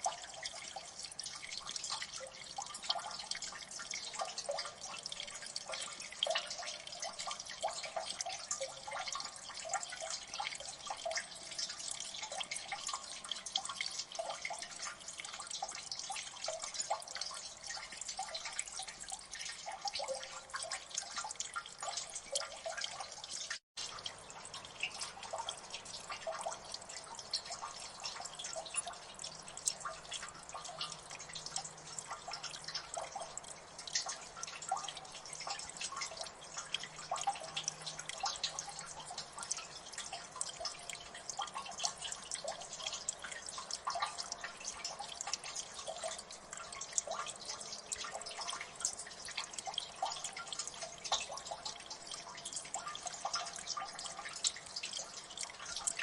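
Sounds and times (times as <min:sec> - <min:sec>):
water dripping: 0:00.0 - 0:56.0.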